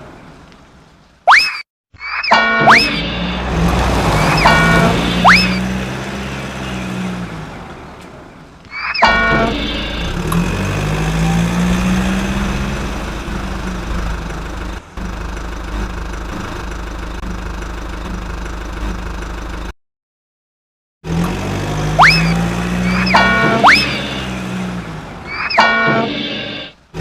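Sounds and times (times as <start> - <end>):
truck engine running: 2.5 - 19.7, 21.1 - 27.0.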